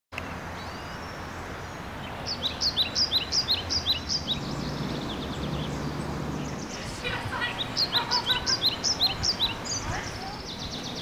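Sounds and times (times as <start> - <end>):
low outdoor background noise: 0.1 - 11.0.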